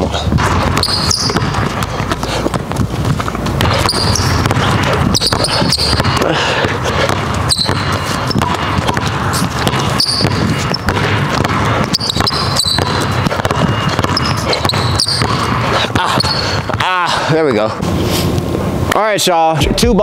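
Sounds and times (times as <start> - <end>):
basketballs bouncing on hardwood: 0.0 - 16.9.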